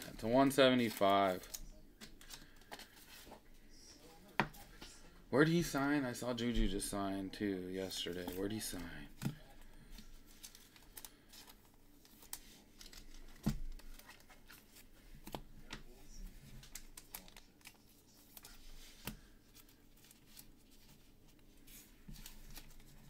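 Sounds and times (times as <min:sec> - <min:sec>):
cards and foil wrappers crinkling: 0:00.0 - 0:03.4, 0:07.7 - 0:23.0.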